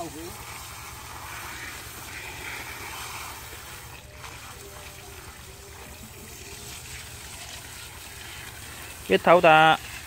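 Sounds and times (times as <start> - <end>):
hose water splashing: 0.0 - 10.0.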